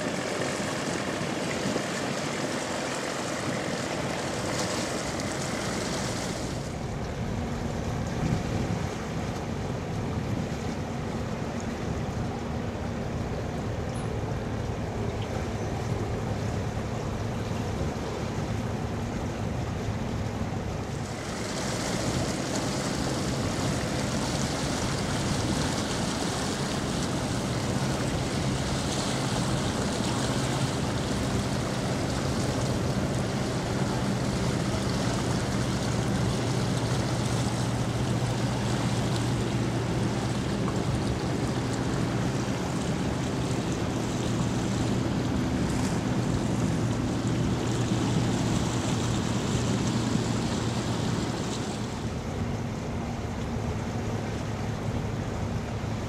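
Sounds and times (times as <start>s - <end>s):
ship engine droning: 0.0s - 56.0s
water hissing along hull: 0.0s - 56.0s.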